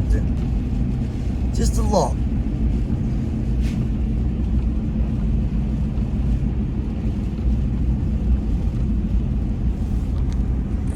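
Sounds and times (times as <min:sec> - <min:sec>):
vehicle engine rumbling: 0:00.0 - 0:10.9
wind noise: 0:00.0 - 0:10.9.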